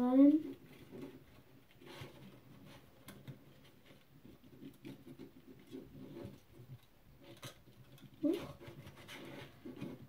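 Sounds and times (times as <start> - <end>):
plastic parts scratching and clicking: 0.3 - 10.0.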